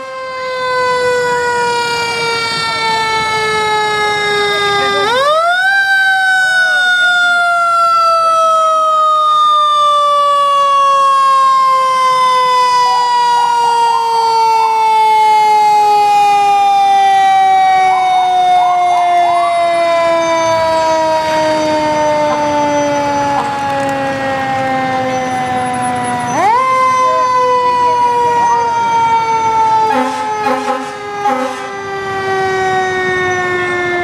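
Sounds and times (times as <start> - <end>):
fire truck siren wailing: 0.0 - 34.0.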